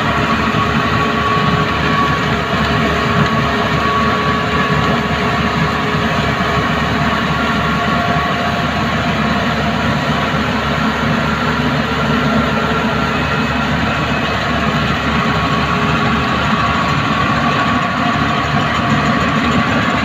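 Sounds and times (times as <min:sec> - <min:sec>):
combine harvester drone: 0:00.0 - 0:20.0.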